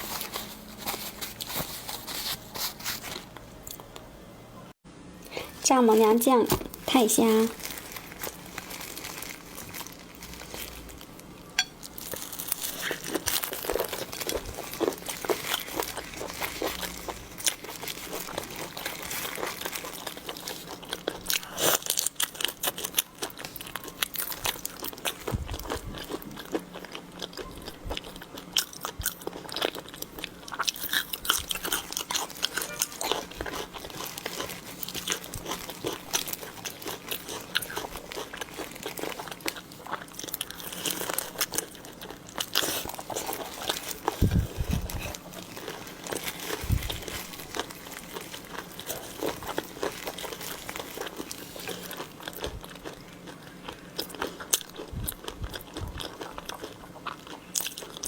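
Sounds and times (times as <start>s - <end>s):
person chewing shrimp: 7.6s - 58.0s.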